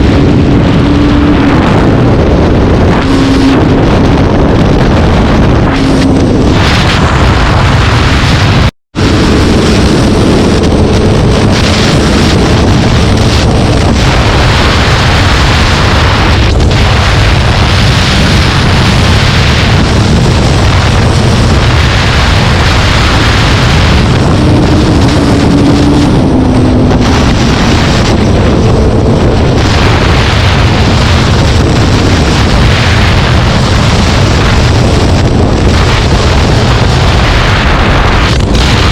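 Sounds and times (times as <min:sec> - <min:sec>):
engine and road noise: 0:00.0 - 0:38.9
wind buffeting microphone: 0:00.0 - 0:38.9.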